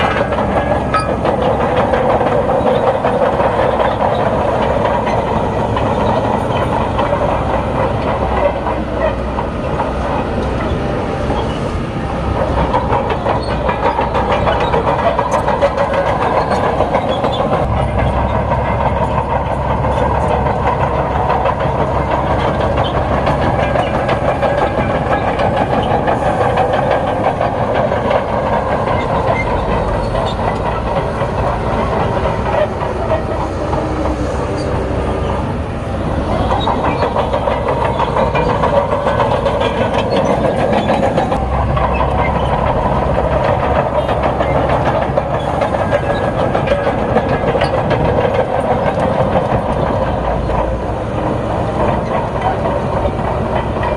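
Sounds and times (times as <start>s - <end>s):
bulldozer diesel engine: 0.0s - 53.9s
steel tracks clattering: 0.0s - 53.9s.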